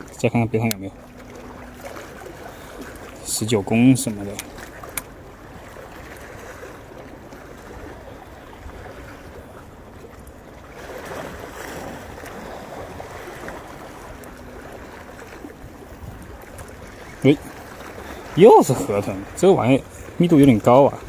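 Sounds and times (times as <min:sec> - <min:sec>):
surf washing against rocks: 0:00.0 - 0:21.0.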